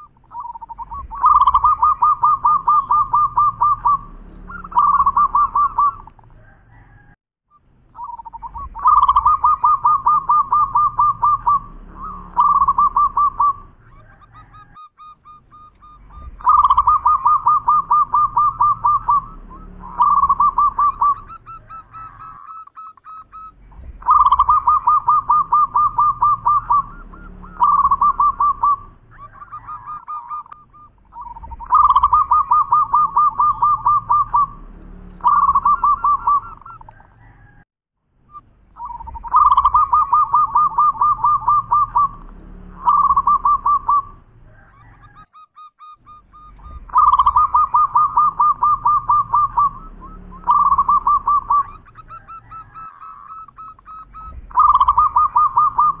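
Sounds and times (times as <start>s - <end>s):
dove cooing: 0.0s - 7.2s, 7.9s - 37.6s, 38.8s - 56.0s.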